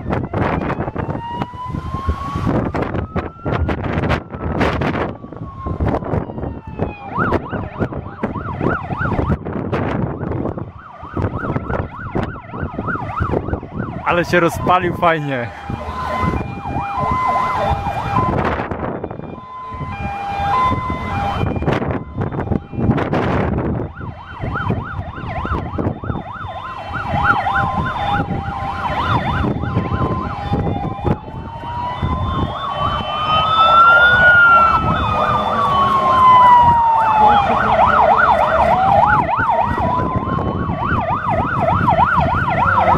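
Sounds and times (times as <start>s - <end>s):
emergency vehicle siren: 0.0s - 42.9s
wind buffeting microphone: 0.0s - 42.9s.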